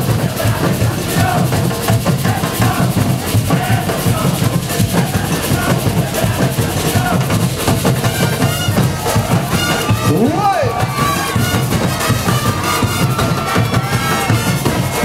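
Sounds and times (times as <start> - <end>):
drum band beating rhythm: 0.0 - 15.0.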